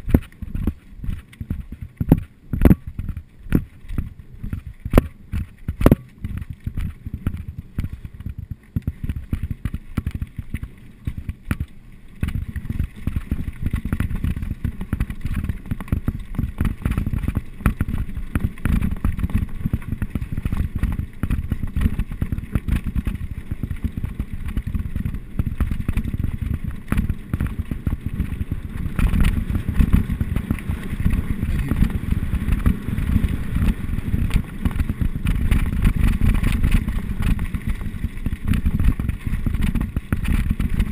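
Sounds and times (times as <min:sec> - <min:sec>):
mountain bike rattling on trail: 0:00.0 - 0:40.9
wind buffeting microphone: 0:00.0 - 0:40.9.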